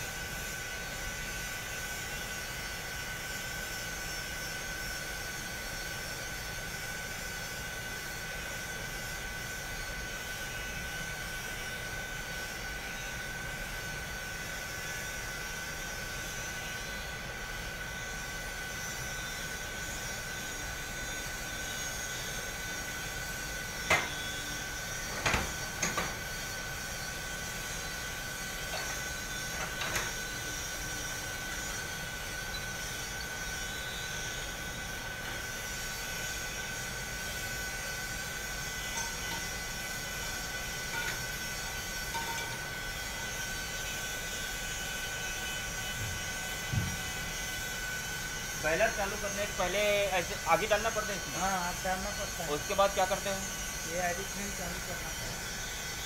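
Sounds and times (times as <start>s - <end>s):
machinery drone with high whine: 0.0s - 56.0s.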